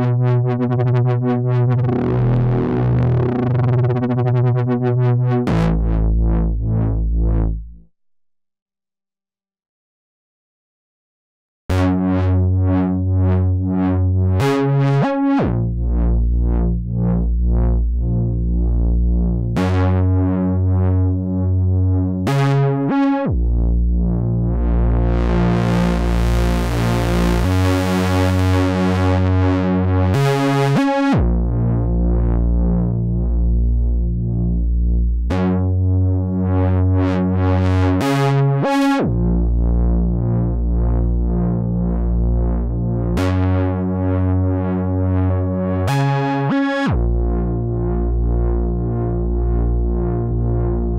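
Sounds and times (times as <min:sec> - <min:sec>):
synthesizer bass pattern: 0:00.0 - 0:07.9, 0:11.7 - 0:50.9.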